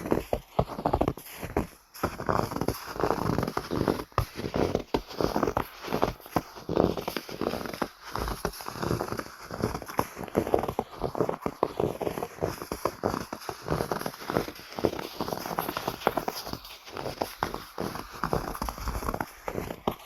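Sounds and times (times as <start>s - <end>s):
footsteps crunching through snow: 0.0s - 20.0s.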